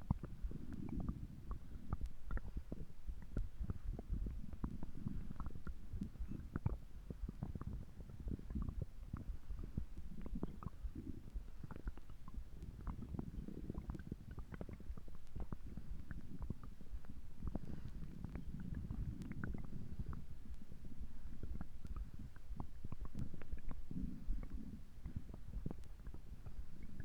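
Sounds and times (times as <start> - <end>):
stomach gurgling and rumbling: 0.0 - 27.0.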